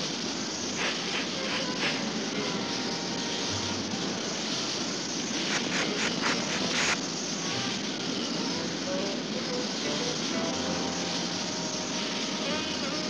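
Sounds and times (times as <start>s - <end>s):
cartoon jet engine rushing: 0.0s - 13.0s
short crackling bursts: 0.0s - 13.0s.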